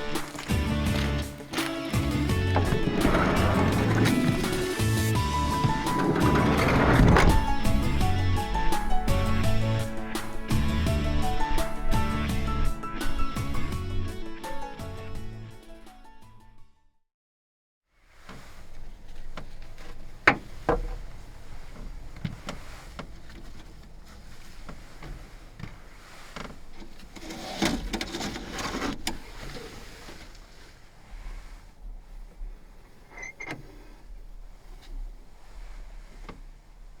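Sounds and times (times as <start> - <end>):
clattering and rustling: 0.0 - 10.7, 18.0 - 37.0.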